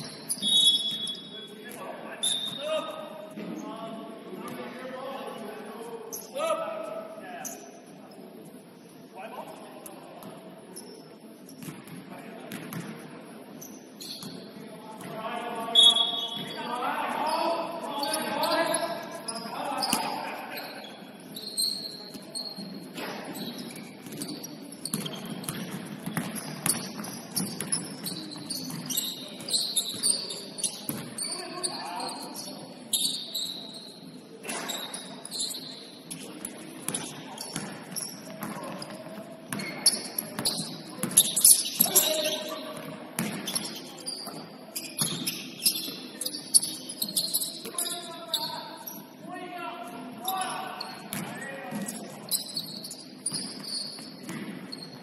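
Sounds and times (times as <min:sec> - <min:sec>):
sneakers squeaking on court: 0:00.0 - 0:03.7, 0:10.2 - 0:49.2, 0:50.2 - 0:55.0
faint echoing voices: 0:01.2 - 0:55.0.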